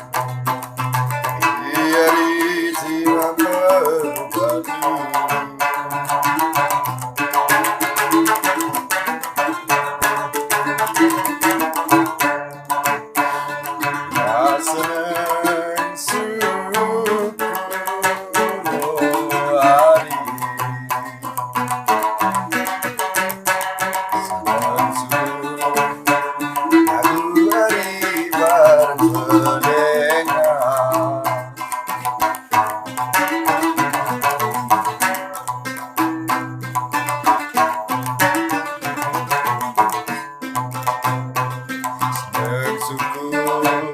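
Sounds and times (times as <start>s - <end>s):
person singing: 0.0s - 12.2s, 13.2s - 43.9s
lute plucked: 0.0s - 43.9s.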